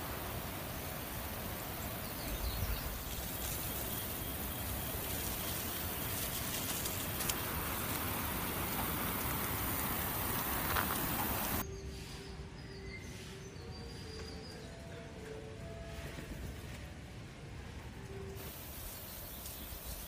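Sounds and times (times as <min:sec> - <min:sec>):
hissing outdoor background noise: 0:00.0 - 0:20.0.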